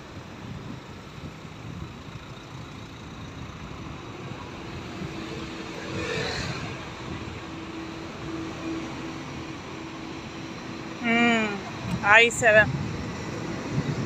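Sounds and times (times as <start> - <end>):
engines idling: 0.0 - 14.0
traffic rush: 0.0 - 14.0.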